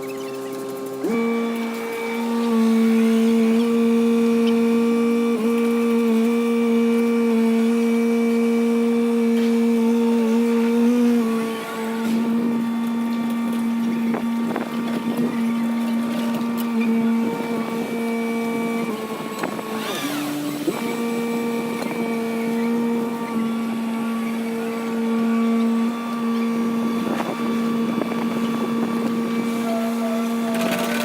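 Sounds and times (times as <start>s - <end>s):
excavator engine droning: 0.0s - 31.0s
hydraulic whine: 0.0s - 31.0s.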